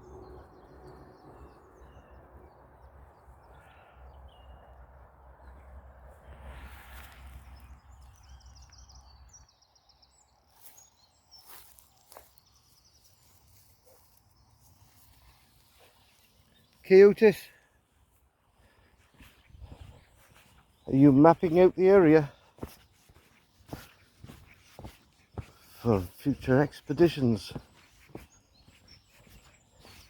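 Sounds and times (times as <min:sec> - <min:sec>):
distant birds singing: 0:00.0 - 0:30.0.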